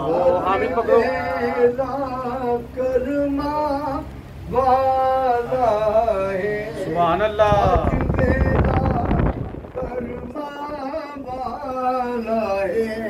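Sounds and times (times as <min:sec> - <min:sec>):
man singing a chant: 0:00.0 - 0:13.0.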